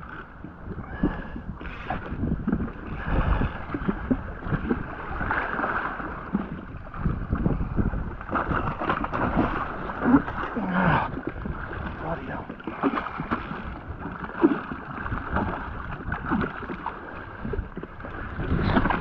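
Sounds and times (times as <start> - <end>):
water slapping against hull: 0.0 - 19.0
wind buffeting microphone: 0.0 - 19.0.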